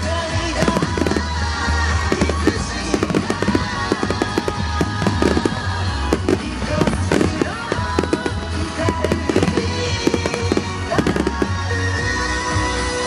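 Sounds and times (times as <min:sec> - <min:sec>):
fireworks bursting: 0:00.0 - 0:13.0
music: 0:00.0 - 0:13.0.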